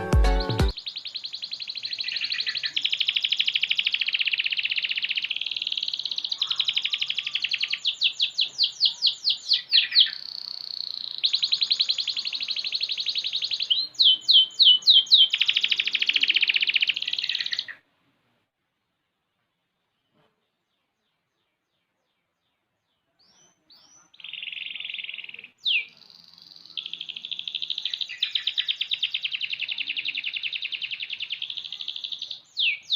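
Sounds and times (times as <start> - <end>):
canary singing trills: 0.4 - 17.8, 23.1 - 32.9.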